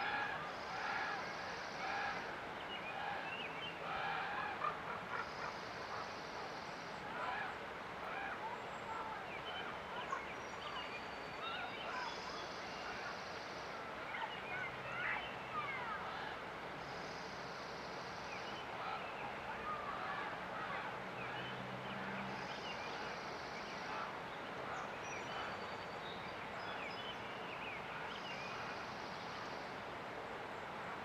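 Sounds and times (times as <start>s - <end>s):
songbirds chirping: 4.5s - 31.0s.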